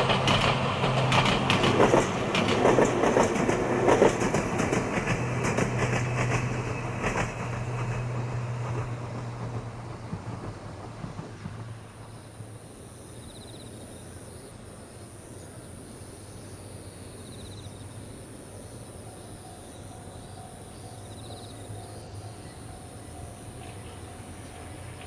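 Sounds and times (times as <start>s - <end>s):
distant train hum: 0.0s - 25.0s.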